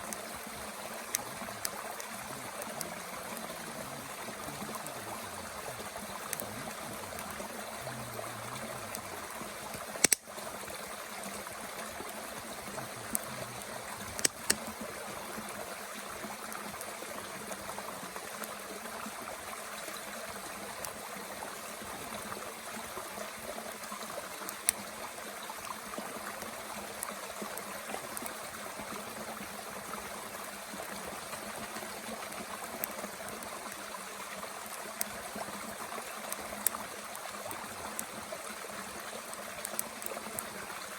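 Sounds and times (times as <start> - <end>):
stream flowing: 0.0 - 40.9
wood crackling in a stove: 0.0 - 40.9.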